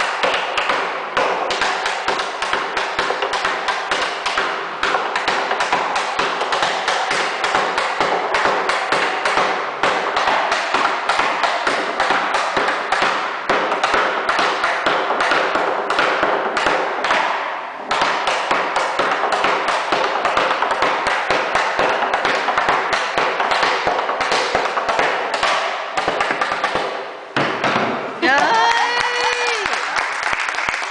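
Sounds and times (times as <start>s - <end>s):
knocking on wooden barrel: 0.2s - 28.0s.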